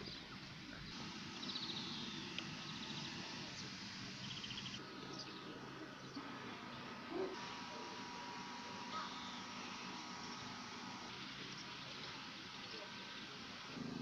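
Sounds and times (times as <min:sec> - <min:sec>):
birds trilling: 0:00.0 - 0:07.4, 0:08.4 - 0:14.0
low background noise: 0:00.0 - 0:14.0.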